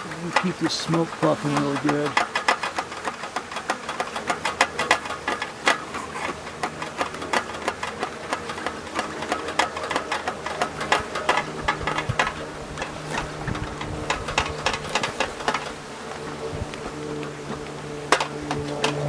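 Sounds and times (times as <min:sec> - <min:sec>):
clicks and knocks at beehive: 0:00.0 - 0:19.0
honeybees humming: 0:00.0 - 0:19.0.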